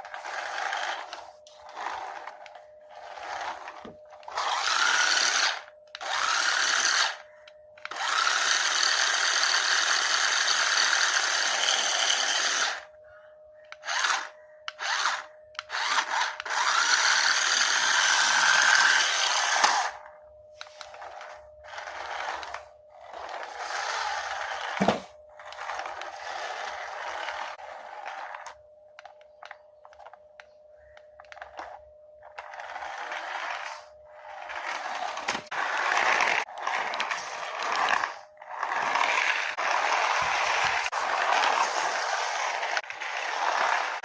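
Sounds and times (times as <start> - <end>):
toy motor and gears whirring: 0.0 - 13.0, 13.7 - 30.2, 31.2 - 44.0
faint steady hum: 0.0 - 44.0.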